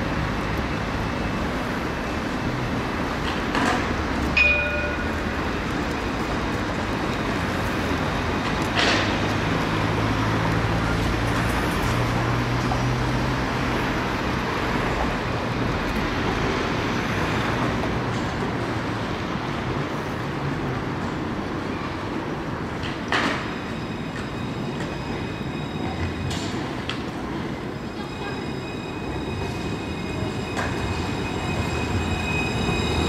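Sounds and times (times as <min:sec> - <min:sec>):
tram rolling rumble: 0:00.0 - 0:33.0.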